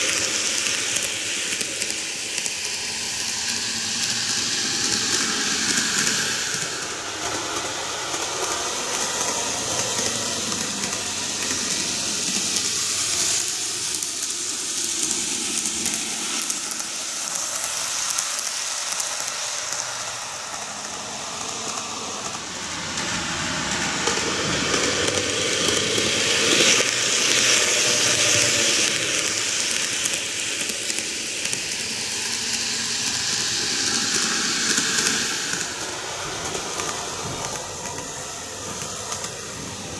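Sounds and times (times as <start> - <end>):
model train whirring rattle: 0.0 - 39.9.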